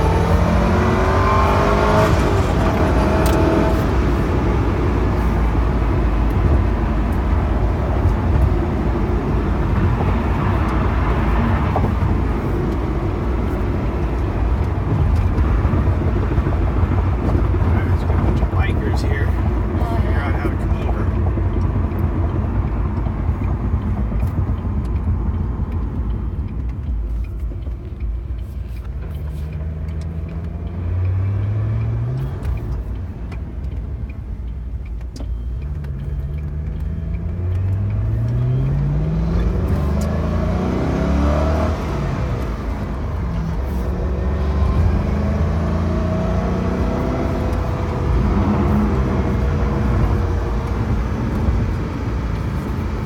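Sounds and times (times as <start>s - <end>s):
car engine accelerating: 0.0s - 53.0s
low road rumble: 0.0s - 53.0s.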